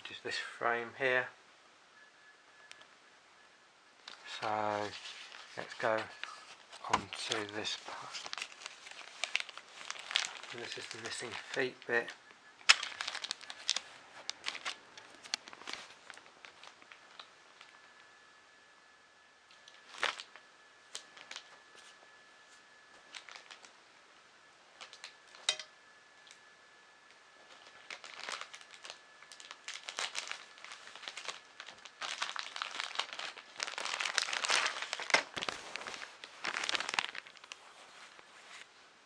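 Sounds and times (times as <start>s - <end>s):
plastic packaging crinkling: 4.0s - 18.2s, 19.5s - 23.8s, 24.7s - 26.5s, 27.1s - 38.7s.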